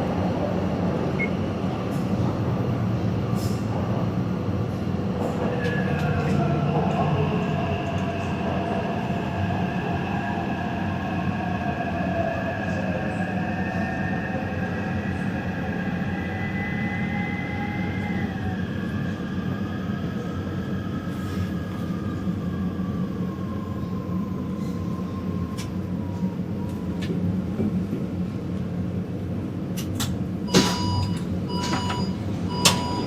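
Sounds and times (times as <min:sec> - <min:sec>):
train wheels rumbling on track: 0:00.0 - 0:13.8, 0:14.4 - 0:33.0.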